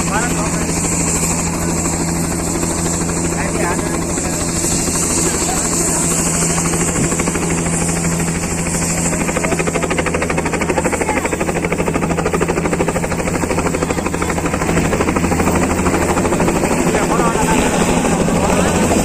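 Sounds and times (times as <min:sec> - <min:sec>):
helicopter engine hum: 0:00.0 - 0:19.0
helicopter rotor blades beating: 0:00.0 - 0:19.0.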